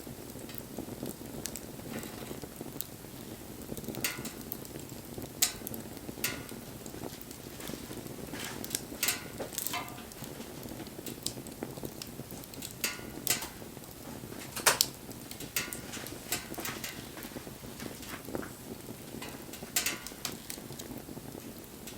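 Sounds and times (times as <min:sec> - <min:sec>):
sharp pops of fire: 0:00.0 - 0:21.9
wood fire crackling: 0:00.0 - 0:21.9.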